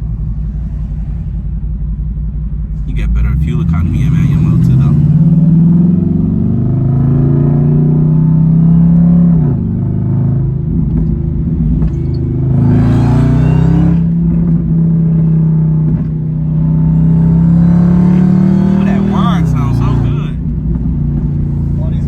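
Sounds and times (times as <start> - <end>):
car engine from inside cabin: 0.0 - 22.0.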